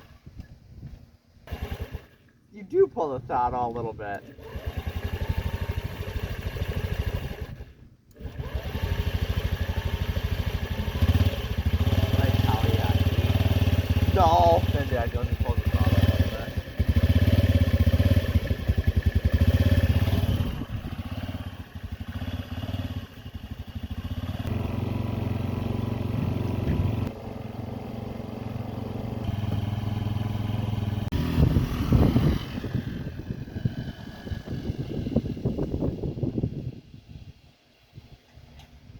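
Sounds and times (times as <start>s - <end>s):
scooter engine revving and idling: 1.4s - 2.3s, 4.2s - 37.1s.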